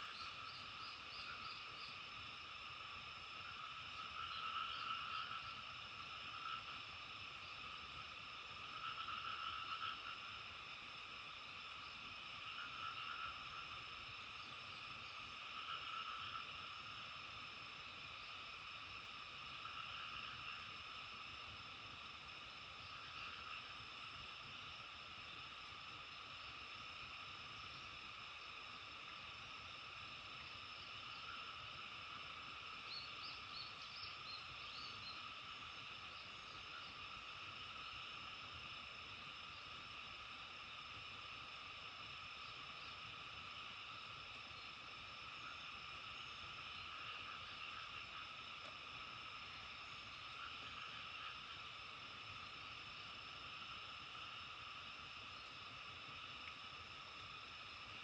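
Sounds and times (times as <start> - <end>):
faint outdoor nature ambience: 0.0 - 58.0
frogs and insects chorus: 0.0 - 58.0.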